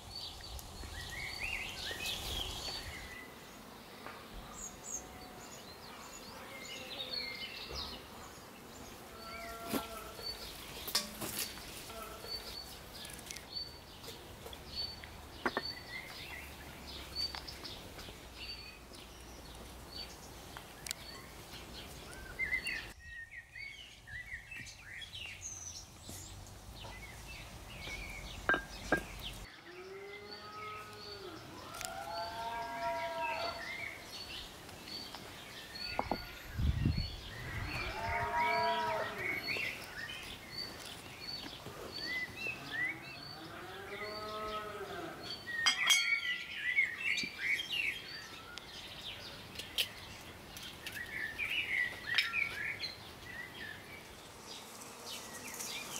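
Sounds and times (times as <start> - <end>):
birds singing and chirping: 0.0 - 55.9.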